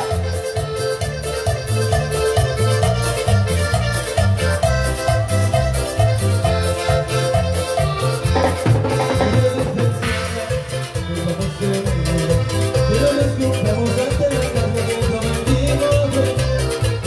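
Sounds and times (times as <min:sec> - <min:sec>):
bass line: 0:00.0 - 0:17.0
keyboard melody: 0:00.0 - 0:17.0
live band playing: 0:00.0 - 0:17.0.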